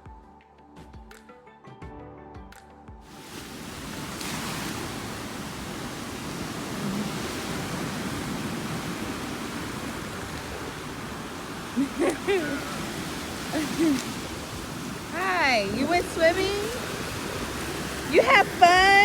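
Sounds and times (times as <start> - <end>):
ocean surf rushing: 3.1 - 19.0.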